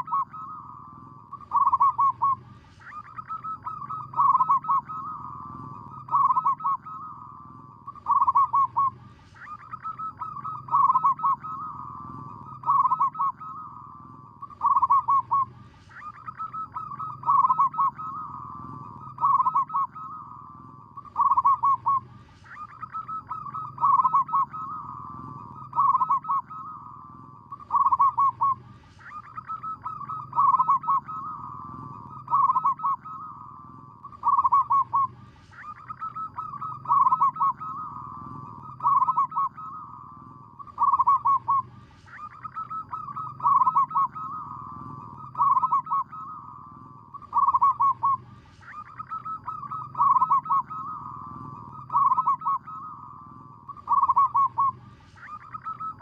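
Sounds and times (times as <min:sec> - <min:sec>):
dove cooing song: 0:00.0 - 0:56.0.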